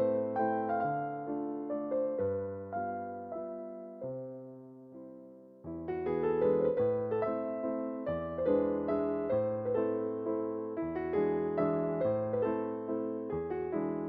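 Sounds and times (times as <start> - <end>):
solo piano dance piece: 0.0 - 14.0.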